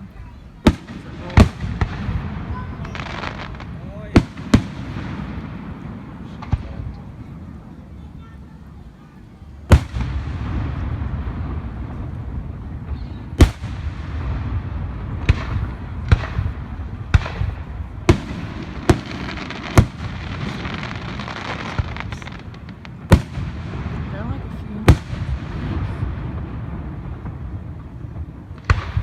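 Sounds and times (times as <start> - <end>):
rumble and crackle of fireworks: 0.0 - 29.0
firework shells booming: 0.6 - 7.6, 9.6 - 29.0.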